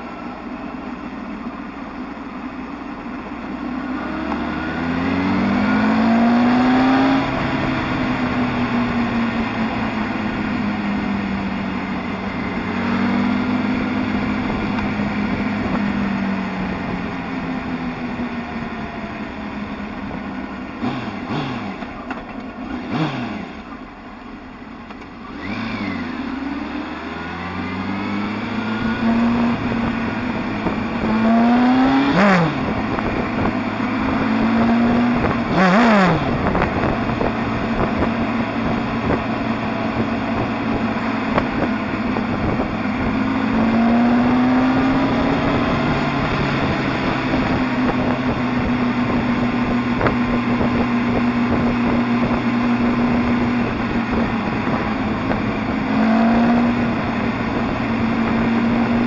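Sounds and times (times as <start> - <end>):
motorbike engine accelerating: 2.6 - 59.0.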